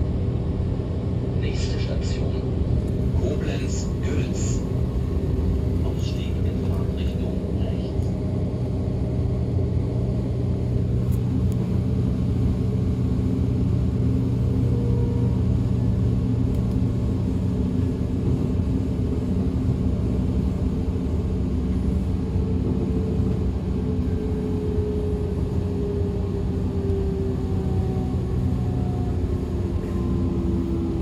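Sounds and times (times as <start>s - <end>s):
train drive whine: 0.0s - 31.0s
train wheels rumbling: 0.0s - 31.0s.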